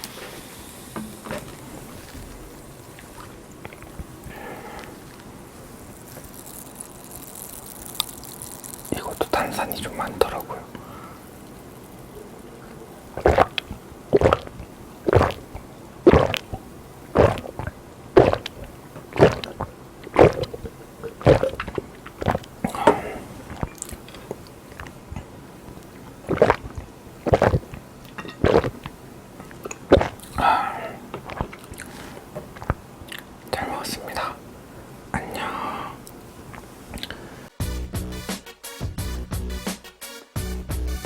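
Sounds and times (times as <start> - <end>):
wet chewing: 1.1 - 34.3.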